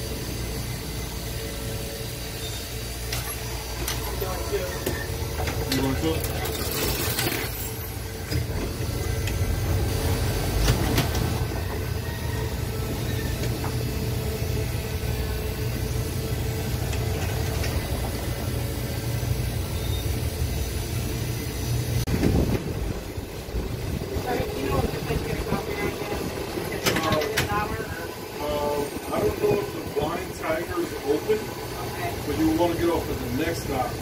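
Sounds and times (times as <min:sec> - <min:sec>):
streetcar rumble: 0:00.0 - 0:34.0.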